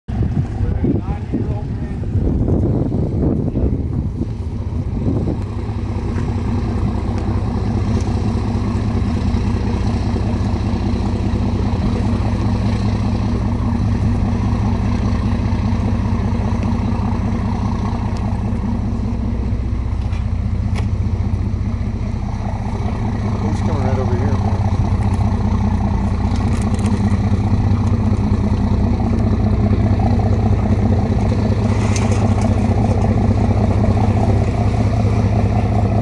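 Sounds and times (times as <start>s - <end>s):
boat engine droning: 0.1s - 36.0s.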